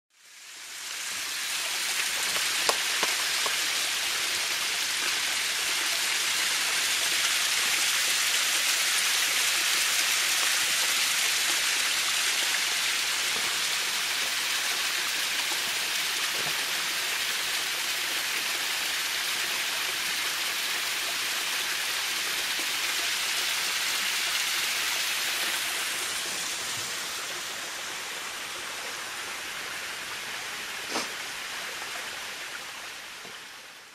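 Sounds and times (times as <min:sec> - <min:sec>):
waterfall splashing: 0:00.6 - 0:33.9.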